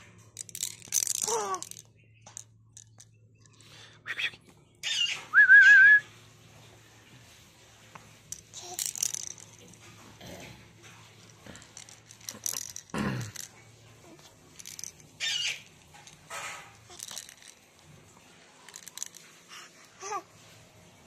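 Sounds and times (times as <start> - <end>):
rustling and handling noises: 0.0 - 3.8, 6.1 - 21.0.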